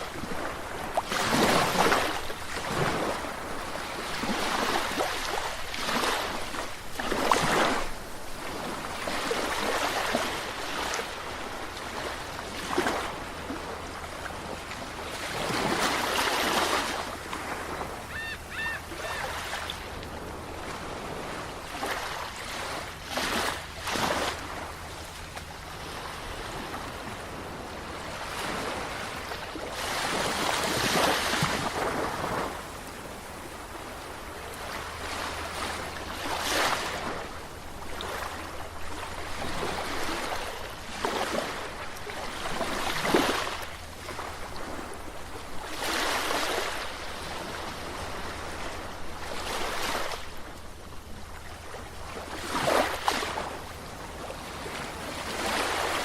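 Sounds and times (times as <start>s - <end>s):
sea waves breaking ashore: 0.0s - 56.0s.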